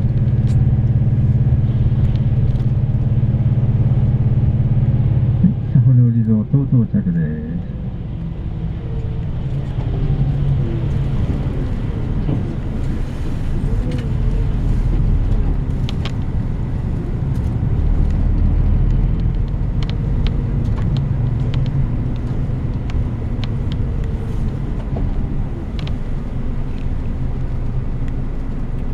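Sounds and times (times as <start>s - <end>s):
bus engine rumbling: 0.0s - 28.9s.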